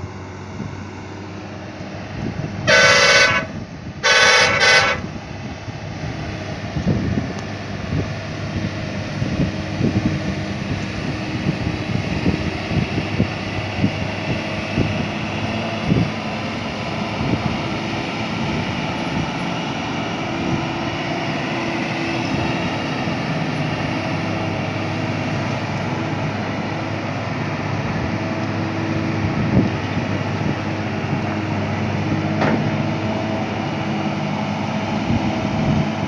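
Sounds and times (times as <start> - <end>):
truck diesel engine drone: 0.0 - 36.0.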